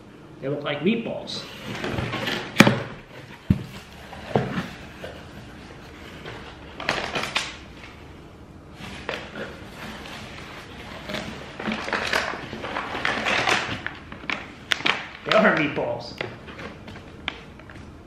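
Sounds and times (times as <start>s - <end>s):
cardboard rustling and scraping: 1.4s - 8.0s, 8.7s - 18.0s.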